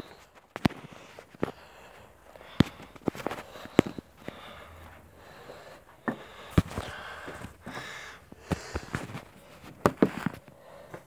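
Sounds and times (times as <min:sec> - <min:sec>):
close breathing: 0:00.0 - 0:11.0.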